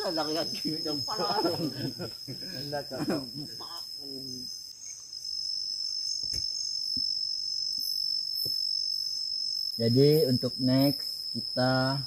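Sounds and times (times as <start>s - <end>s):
crickets droning: 0.0s - 12.0s.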